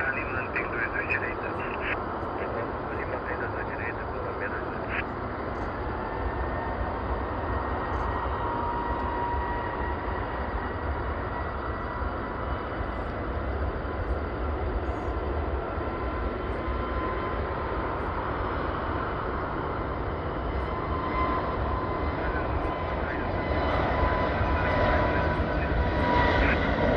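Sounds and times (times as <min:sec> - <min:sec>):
aircraft engine rumble: 0:00.0 - 0:26.9
faint engine whine: 0:00.0 - 0:26.9.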